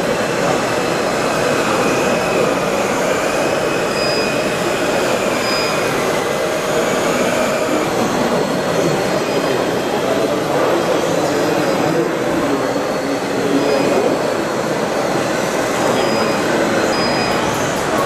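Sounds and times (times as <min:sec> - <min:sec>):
busy exhibition hall din: 0:00.0 - 0:18.0.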